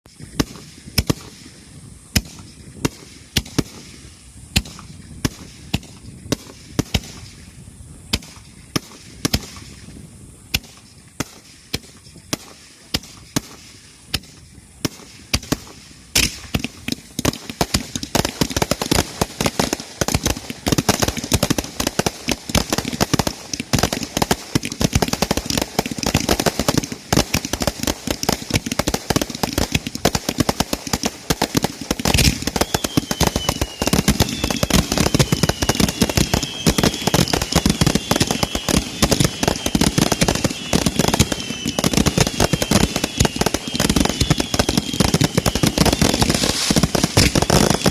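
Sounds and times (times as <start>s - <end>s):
fireworks bangs and bursts: 0.1s - 47.9s.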